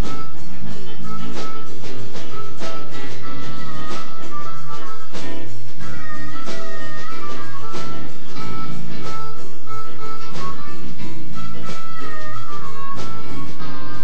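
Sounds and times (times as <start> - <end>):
bending lead guitar notes: 0.0 - 14.0
live blues band: 0.0 - 14.0.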